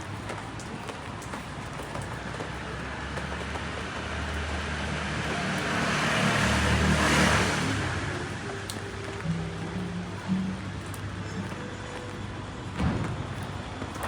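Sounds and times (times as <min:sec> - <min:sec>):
car passing on wet road: 0:00.0 - 0:14.0.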